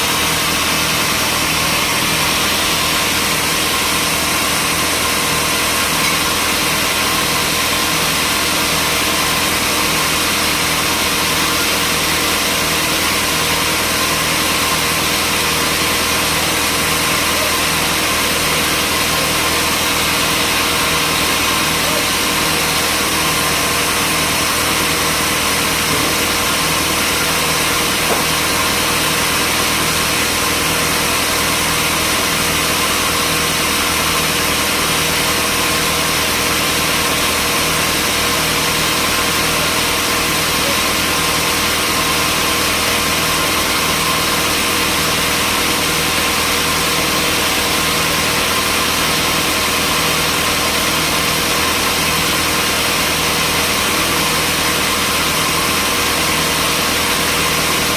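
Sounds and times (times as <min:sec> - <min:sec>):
constant machine whine: 0:00.0 - 0:57.9
sawmill machinery drone: 0:00.0 - 0:57.9.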